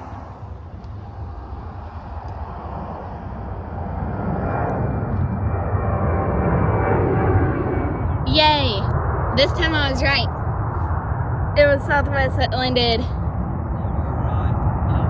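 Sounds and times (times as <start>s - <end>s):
faint jet engine whine: 0.0s - 15.0s
jet engines rushing: 0.0s - 15.0s.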